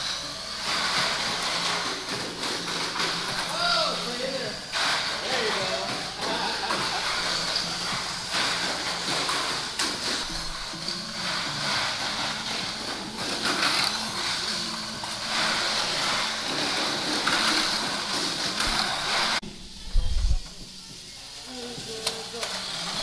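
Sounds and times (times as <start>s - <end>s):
toy car motors hissing: 0.0s - 23.0s.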